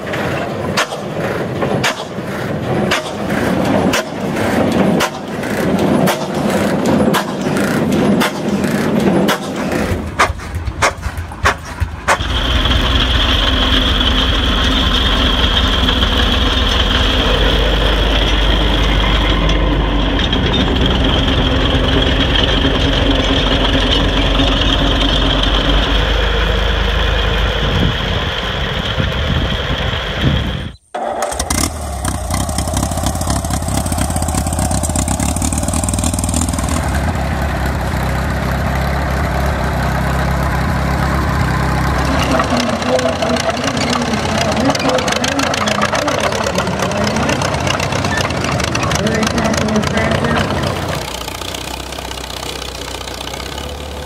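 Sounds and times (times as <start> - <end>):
crawler engine running steadily: 0.0 - 54.0
engine running with high whine: 0.0 - 54.0
tractor engine firing unevenly: 0.0 - 54.0.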